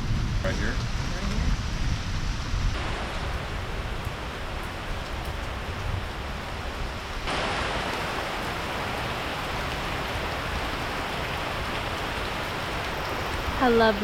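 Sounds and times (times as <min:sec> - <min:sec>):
heavy rainfall: 0:00.0 - 0:14.0.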